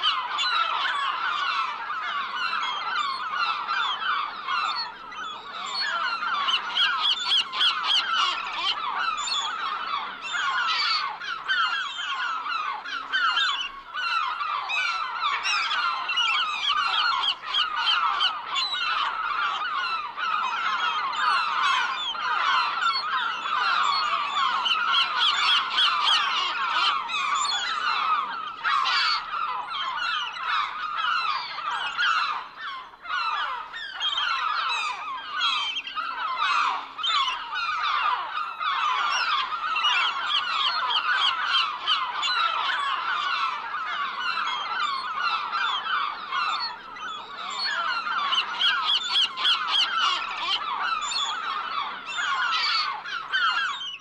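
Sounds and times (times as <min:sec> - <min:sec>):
gulls calling: 0:00.0 - 0:54.0.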